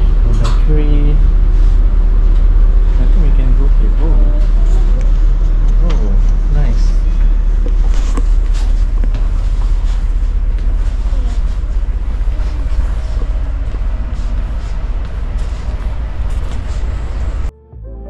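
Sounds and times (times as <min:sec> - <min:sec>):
ship engine low rumble: 0:00.0 - 0:17.5.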